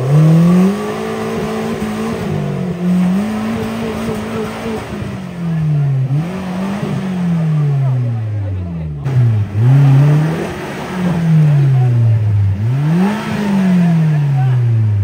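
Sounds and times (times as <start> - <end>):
off-road vehicle engine revving hard: 0.0 - 15.0.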